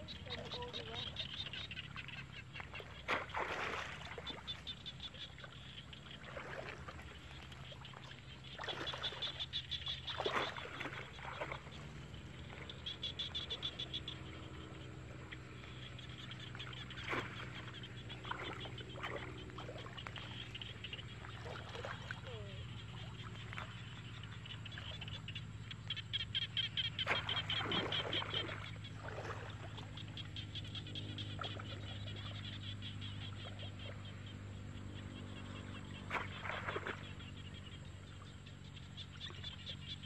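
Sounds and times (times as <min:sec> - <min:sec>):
muddy water splashing: 0:00.0 - 0:40.0.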